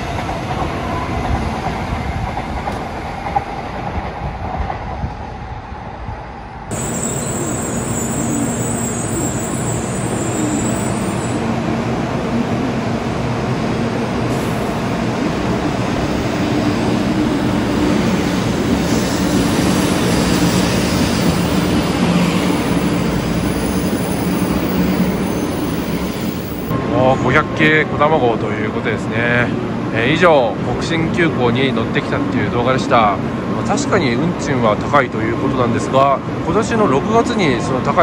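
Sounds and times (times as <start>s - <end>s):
train rumbling with low hum: 0.0s - 31.1s.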